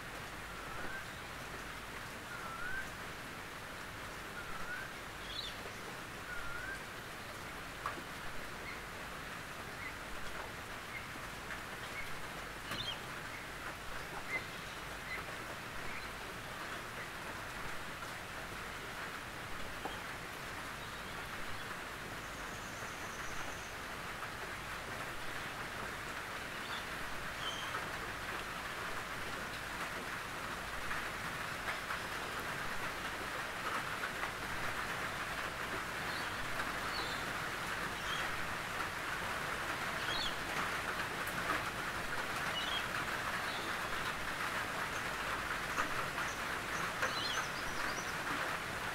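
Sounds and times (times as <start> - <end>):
rain on a tin roof: 0.0 - 48.9.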